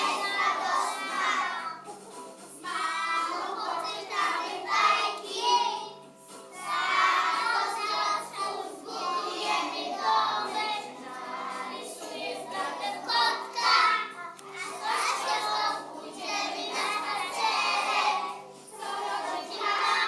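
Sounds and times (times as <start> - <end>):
children singing together: 0.0 - 20.0
musical accompaniment: 0.0 - 20.0.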